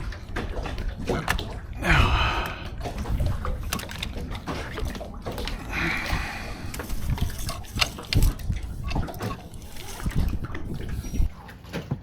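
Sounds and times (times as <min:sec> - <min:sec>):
water lapping and splashing: 0:00.0 - 0:12.0.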